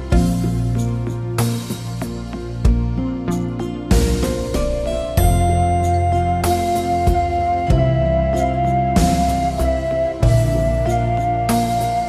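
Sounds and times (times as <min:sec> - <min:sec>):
soft new-age music: 0:00.0 - 0:12.0.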